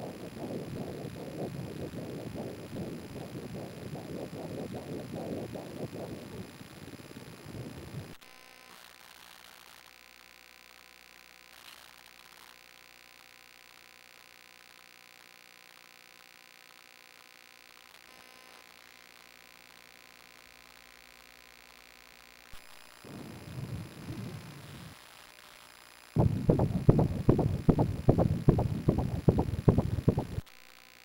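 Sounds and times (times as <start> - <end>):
faint electrical hum and buzz: 0.0 - 31.0.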